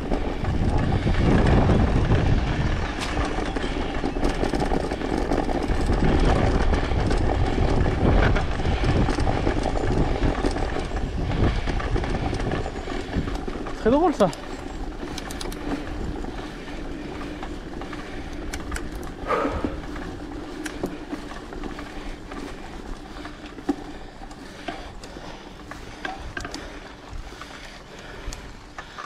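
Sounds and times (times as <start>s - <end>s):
bike clicks and rattles: 0.0s - 29.0s
bike tyres rolling on trail: 0.0s - 29.0s.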